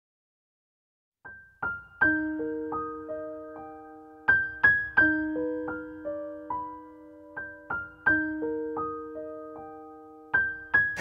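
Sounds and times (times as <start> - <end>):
solo piano notes: 1.3 - 11.0.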